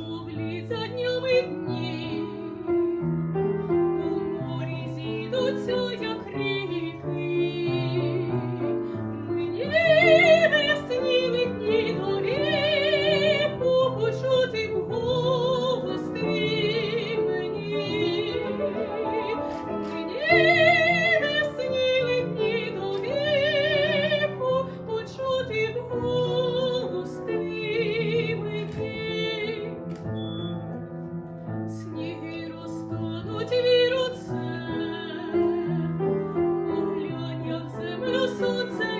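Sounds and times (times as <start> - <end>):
woman singing operatically: 0.0 - 2.7, 4.0 - 8.6, 9.3 - 29.7, 31.8 - 35.9, 36.6 - 38.9
piano accompaniment: 0.0 - 38.9.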